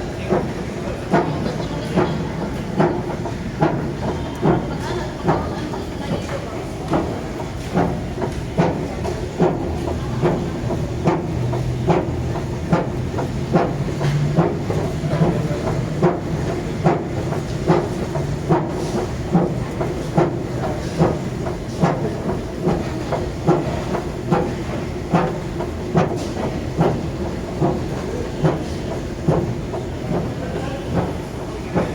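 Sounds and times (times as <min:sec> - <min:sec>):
escalator mechanical hum: 0:00.0 - 0:31.9.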